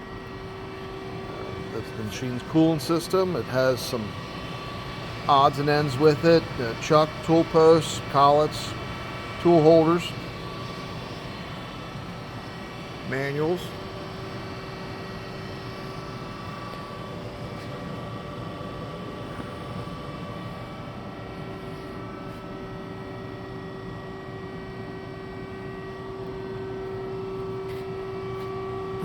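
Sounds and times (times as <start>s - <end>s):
lathe humming: 0.0s - 29.0s.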